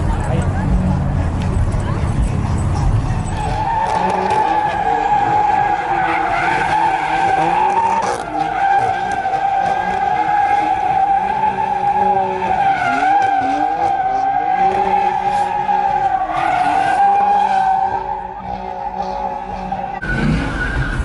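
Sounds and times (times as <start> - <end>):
car engine revving: 0.0 - 21.0
car tyres squealing: 0.0 - 21.0.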